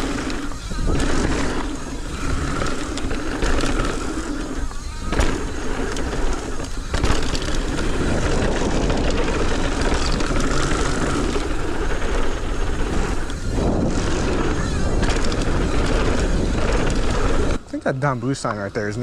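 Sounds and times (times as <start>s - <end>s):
bike tyres rolling on dirt trail: 0.0s - 19.0s
wind rushing over microphone: 0.0s - 19.0s.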